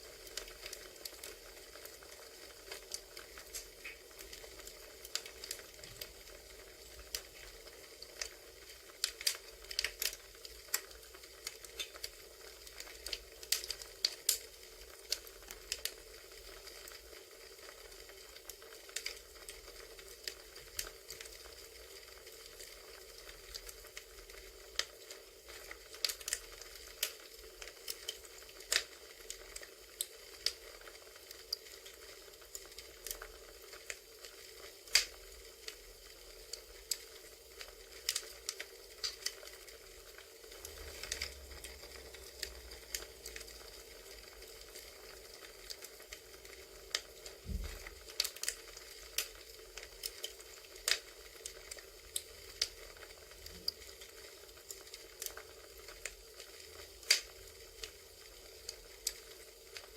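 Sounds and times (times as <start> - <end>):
campfire pops and crackles: 0.0 - 59.9
soft steady hiss: 0.0 - 59.9.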